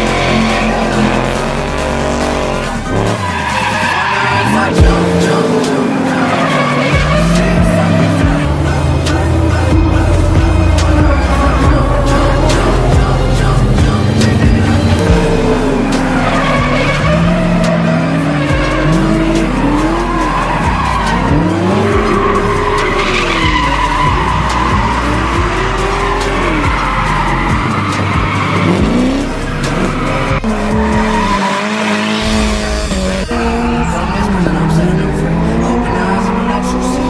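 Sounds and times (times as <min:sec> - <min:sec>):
drift car engines revving: 0:00.0 - 0:37.0
tyres squealing: 0:00.0 - 0:37.0.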